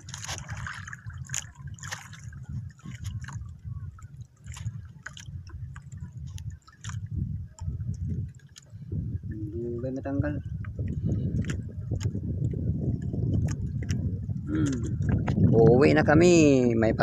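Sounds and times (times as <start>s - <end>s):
water lapping against boat: 0.0s - 17.0s.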